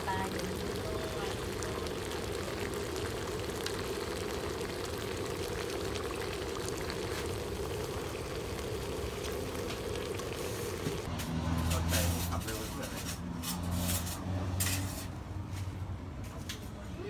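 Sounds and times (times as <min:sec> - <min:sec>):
sauce bubbling and sizzling in a wok: 0:00.0 - 0:15.7.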